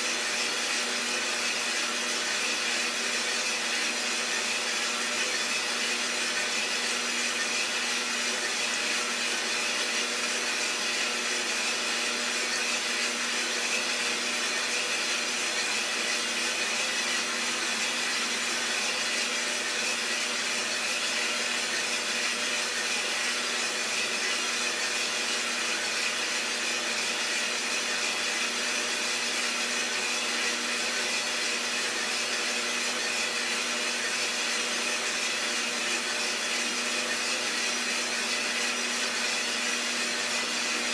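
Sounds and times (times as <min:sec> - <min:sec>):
coffee roaster motor whirring: 0:00.0 - 0:40.9.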